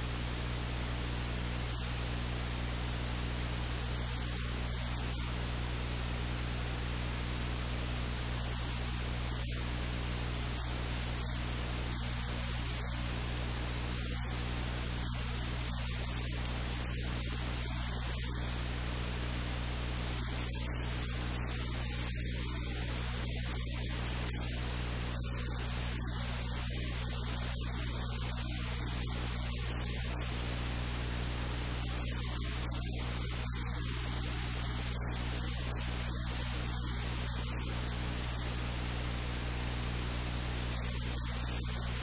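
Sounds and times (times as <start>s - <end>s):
static hiss: 0.0s - 42.0s.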